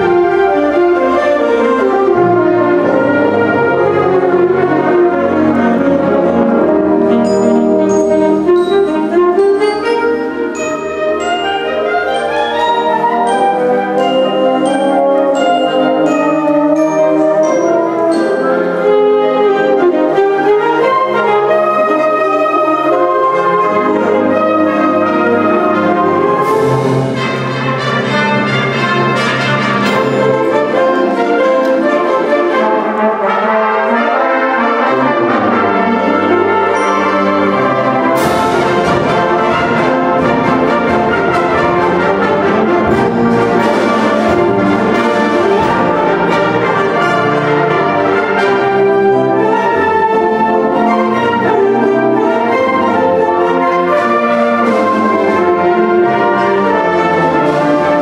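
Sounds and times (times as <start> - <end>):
concert band playing: 0.0 - 58.0.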